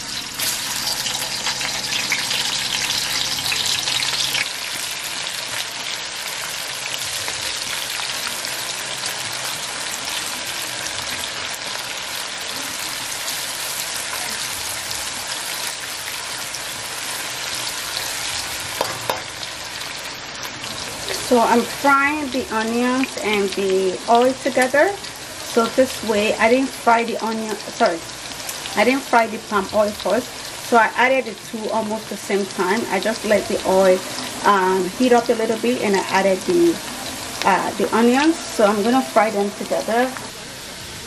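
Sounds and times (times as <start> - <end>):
onions sizzling in hot oil: 0.0 - 41.0.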